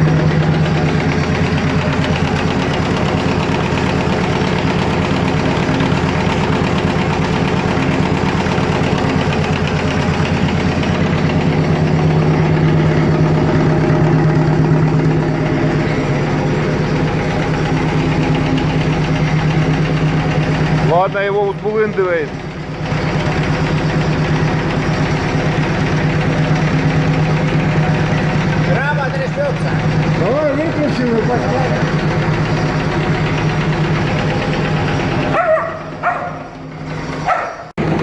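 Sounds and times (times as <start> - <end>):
vacuum pump pulsing: 0.0 - 38.0.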